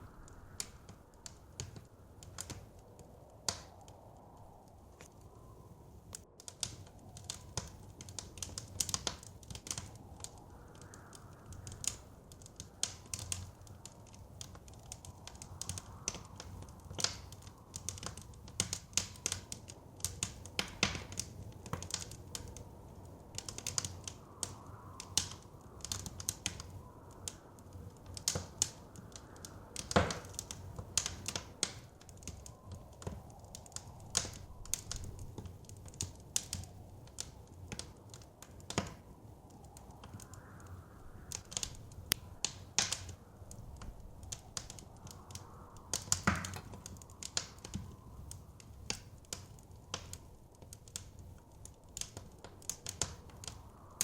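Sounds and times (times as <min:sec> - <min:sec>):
soft blizzard wind: 0:00.0 - 0:54.0
wood fire crackling: 0:00.0 - 0:54.0.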